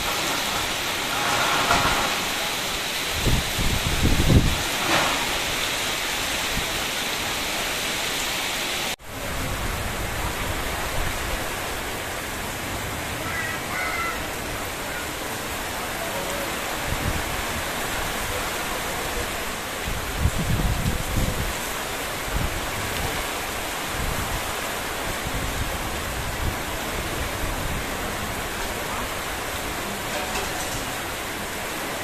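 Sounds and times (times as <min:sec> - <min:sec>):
heavy rain on a street: 0:00.0 - 0:32.0.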